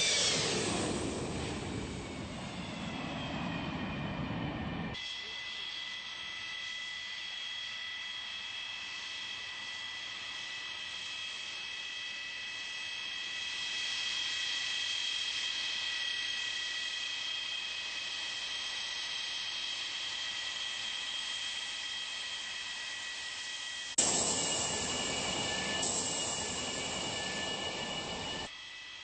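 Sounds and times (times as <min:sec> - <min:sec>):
jet engine whine and hiss: 0:00.0 - 0:29.0.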